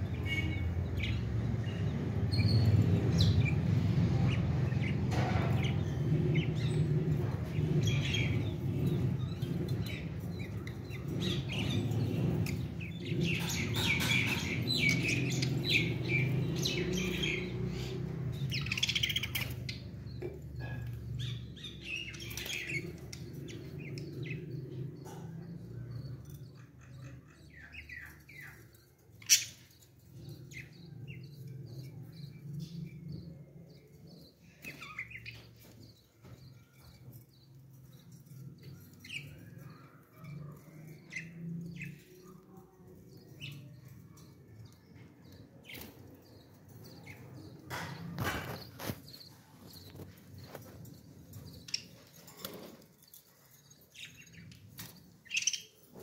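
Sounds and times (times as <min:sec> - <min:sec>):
parrots chirping: 0:00.0 - 0:56.0.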